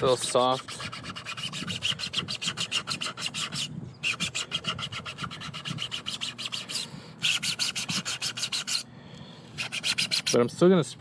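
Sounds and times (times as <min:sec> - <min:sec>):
sandpaper scraping plastic: 0:00.0 - 0:08.9, 0:09.6 - 0:10.5.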